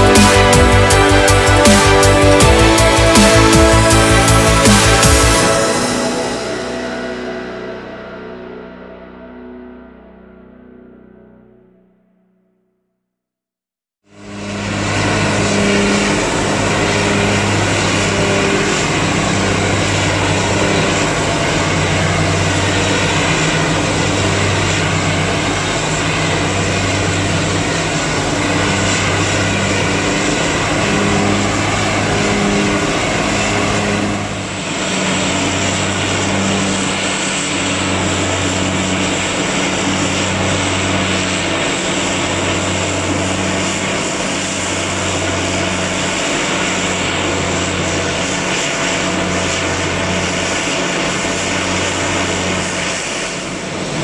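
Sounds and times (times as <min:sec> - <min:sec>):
harvester engine and chopper drone: 0:00.0 - 0:08.2, 0:14.1 - 0:54.0
pulsing low hum: 0:00.0 - 0:12.2, 0:14.1 - 0:54.0.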